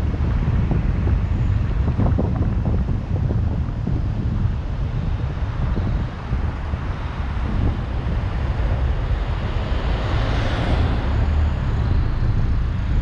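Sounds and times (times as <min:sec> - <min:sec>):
car driving rumble: 0:00.0 - 0:13.0
tyre and wind noise: 0:00.0 - 0:13.0.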